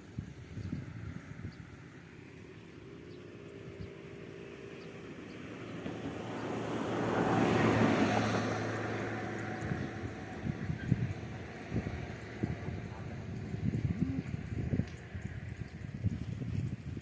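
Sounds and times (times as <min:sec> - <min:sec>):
engine passing by: 0:00.0 - 0:17.0.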